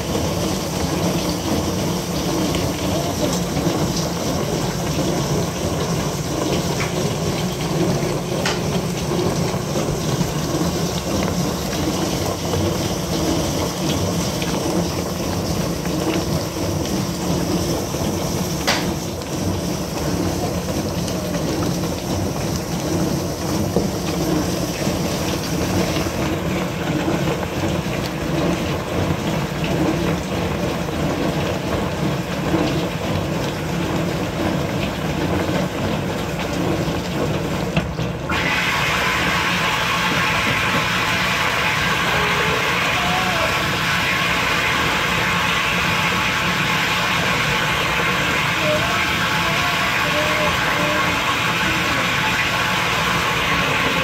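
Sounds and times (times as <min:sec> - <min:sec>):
dishwasher pump hum: 0:00.0 - 0:54.0
water spraying in dishwasher: 0:00.0 - 0:54.0.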